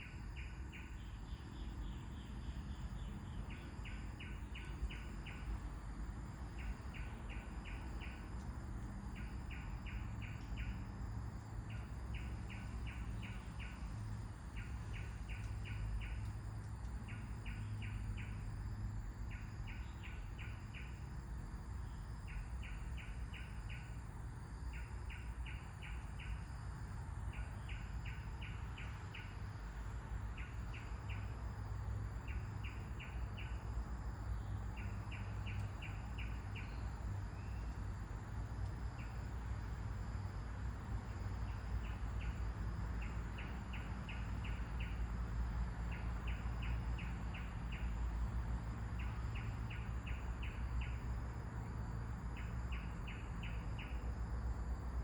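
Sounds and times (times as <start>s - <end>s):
low rumble of wind: 0.0s - 55.0s.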